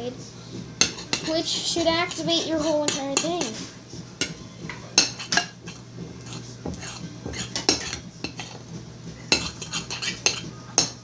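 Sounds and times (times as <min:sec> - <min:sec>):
utensil stirring slime in a bowl: 0:00.8 - 0:08.6, 0:09.2 - 0:11.0.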